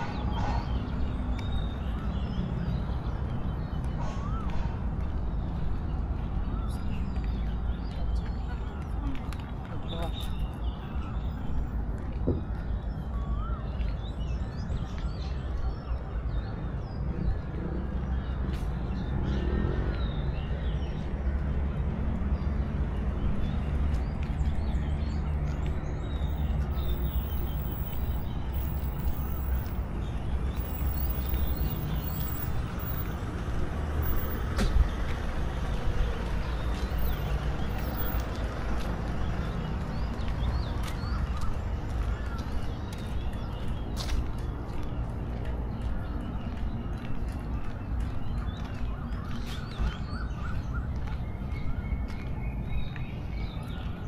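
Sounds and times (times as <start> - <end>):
birds chirping: 0.0 - 54.0
low rumble of traffic: 0.0 - 54.0.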